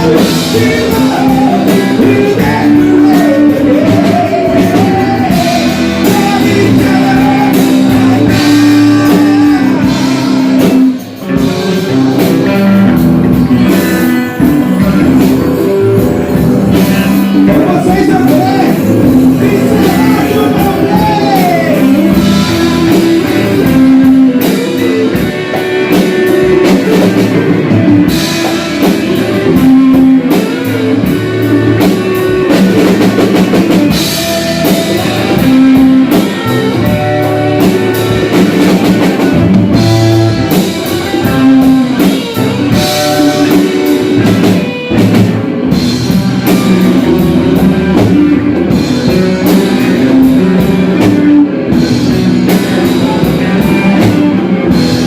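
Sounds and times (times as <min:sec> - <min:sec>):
electric guitar bending pitch: 0:00.0 - 0:55.0
rock music: 0:00.0 - 0:55.0.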